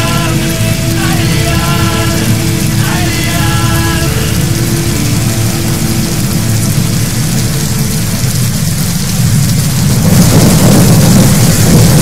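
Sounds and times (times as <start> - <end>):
heavy rain: 0.0 - 12.0
low thunder rumble: 0.0 - 12.0.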